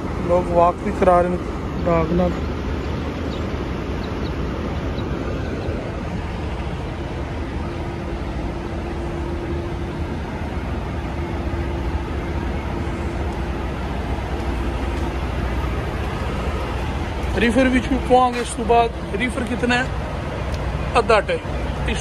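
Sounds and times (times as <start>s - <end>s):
diesel truck engines idling: 0.0s - 22.0s
steady hum: 0.0s - 22.0s.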